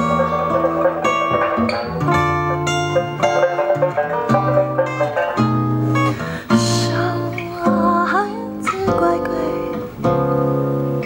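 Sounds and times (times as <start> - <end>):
acoustic guitar chords: 0.0 - 11.0
double bass line: 0.0 - 11.0
plucked lute melody: 0.0 - 11.0.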